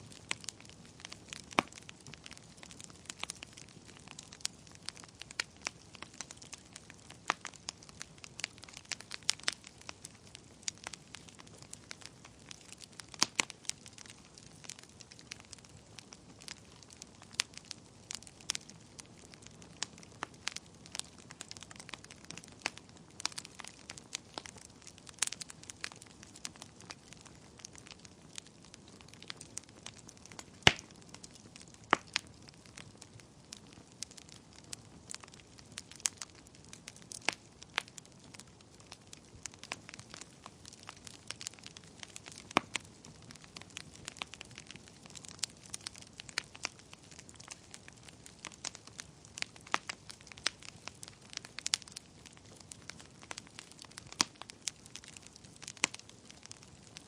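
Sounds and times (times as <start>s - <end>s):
logs crackling and popping: 0.0s - 57.0s.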